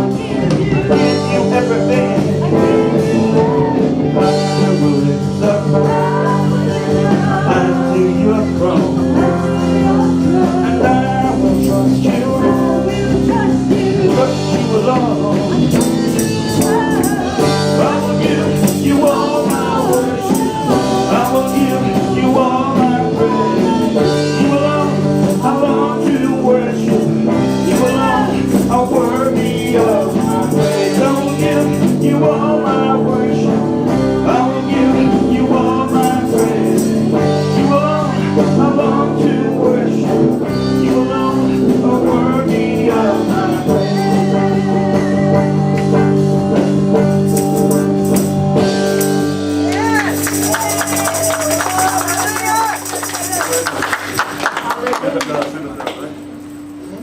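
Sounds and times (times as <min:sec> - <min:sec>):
person singing: 0:00.0 - 0:53.8
guitar: 0:00.0 - 0:57.0
tambourine: 0:00.8 - 0:54.3.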